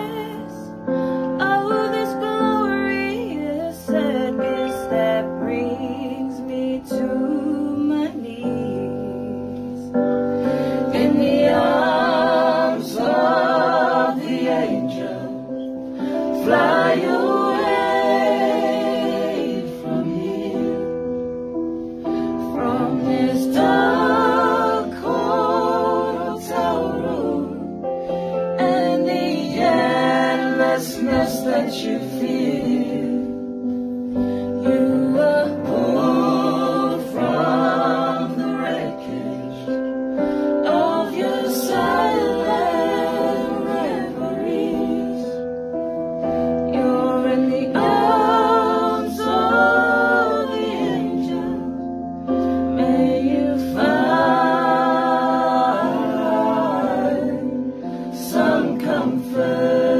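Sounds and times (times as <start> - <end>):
group singing a cappella: 0.0 - 59.9.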